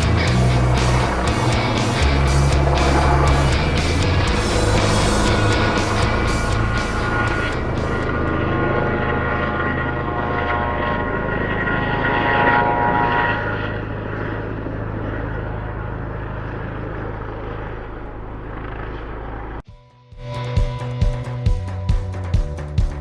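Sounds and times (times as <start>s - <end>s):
aircraft engines droning: 0.0s - 19.6s.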